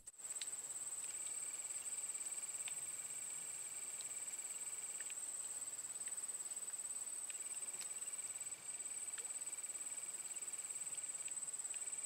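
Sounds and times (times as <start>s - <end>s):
faint ticks: 0.0s - 12.0s
lower insect trill: 0.0s - 12.0s
high-pitched insect trill: 0.2s - 12.0s.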